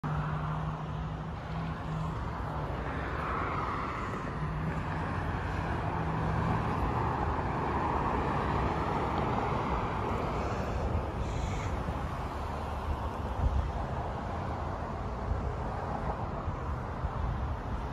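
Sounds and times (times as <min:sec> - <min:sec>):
road traffic noise: 0:00.0 - 0:17.9.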